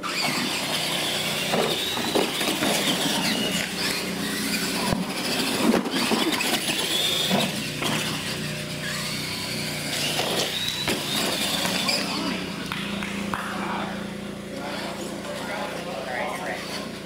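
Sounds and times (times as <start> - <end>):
toy truck motors whining: 0.0 - 13.0, 14.5 - 17.0.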